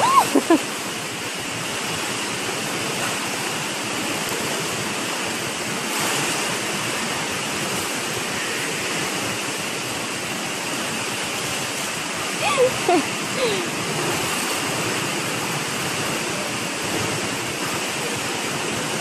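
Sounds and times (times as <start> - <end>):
water rushing in pool: 0.0 - 19.0.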